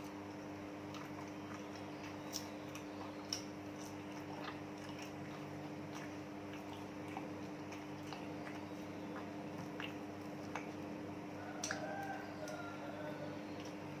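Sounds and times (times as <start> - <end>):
person chewing food: 0.0 - 14.0
steady low hum: 0.0 - 14.0.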